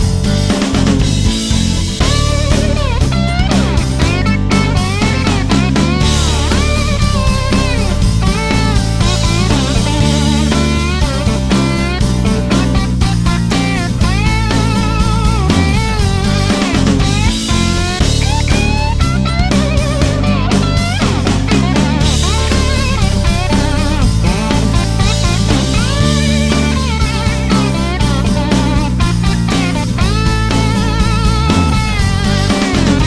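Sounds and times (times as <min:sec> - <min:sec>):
drum kit: 0:00.0 - 0:33.0
electric guitar lead: 0:00.0 - 0:33.0
rock music: 0:00.0 - 0:33.0.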